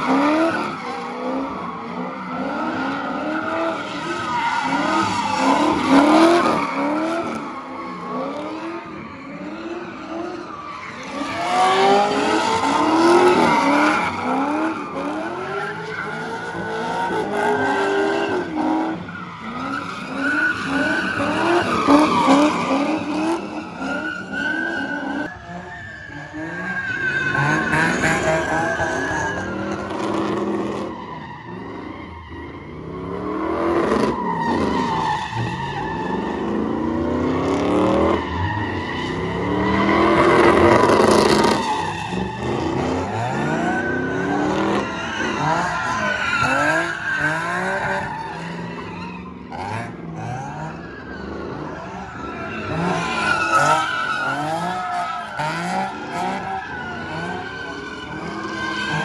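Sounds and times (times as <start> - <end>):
tires squealing: 0.0 - 59.0.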